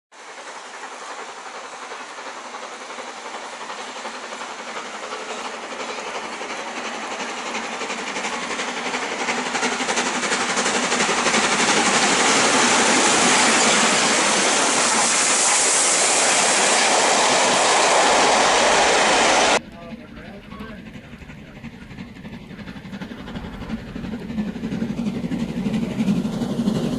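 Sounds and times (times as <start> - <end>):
steam locomotive exhaust beating: 0.1 - 26.9
train coaches rushing past: 0.2 - 26.9.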